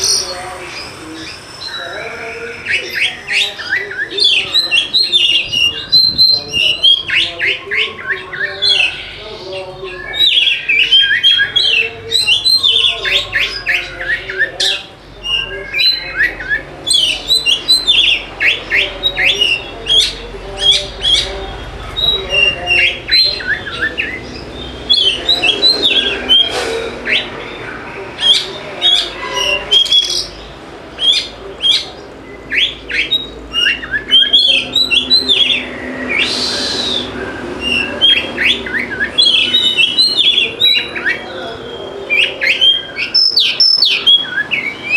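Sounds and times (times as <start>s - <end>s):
bird singing chirps and whistles: 0.0s - 44.9s.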